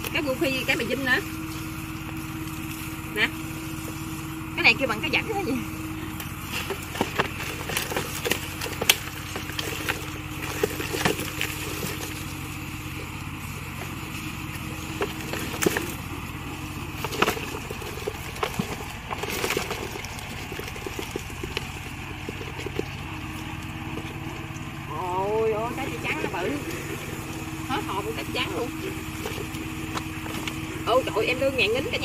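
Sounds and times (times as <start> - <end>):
low motor hum: 0.0 - 32.0.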